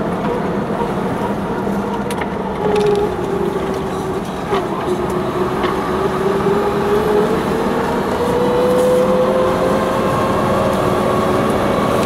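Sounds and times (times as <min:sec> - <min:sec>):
rising drivetrain whine: 0:00.0 - 0:12.0.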